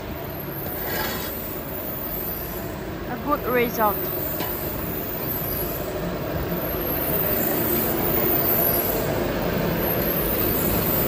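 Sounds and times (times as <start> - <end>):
furnace machinery rumble and hum: 0.0 - 11.0.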